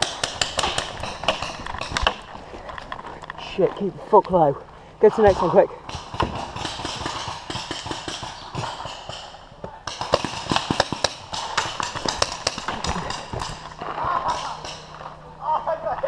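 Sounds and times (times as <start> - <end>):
sharp clicks and knocks: 0.0 - 3.4, 5.3 - 15.1.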